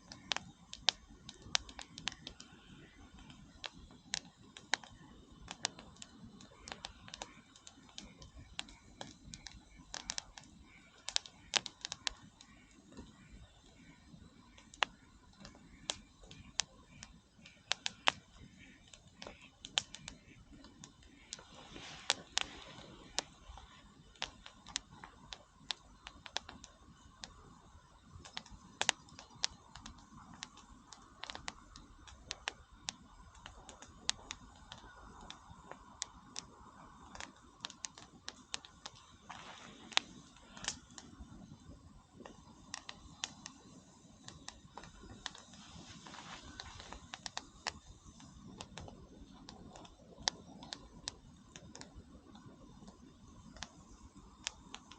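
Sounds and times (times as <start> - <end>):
bonfire crackling and popping: 0.0 - 54.9
faint steady hiss: 0.0 - 54.9.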